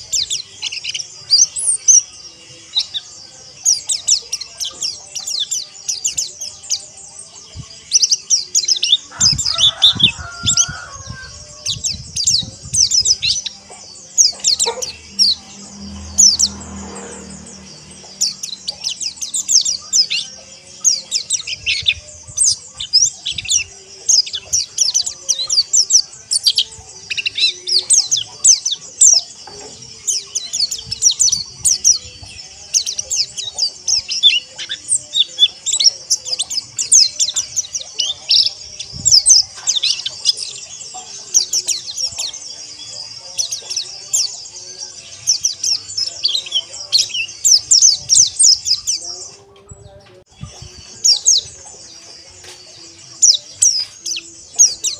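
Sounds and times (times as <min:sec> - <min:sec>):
small birds twittering: 0:00.0 - 0:54.9.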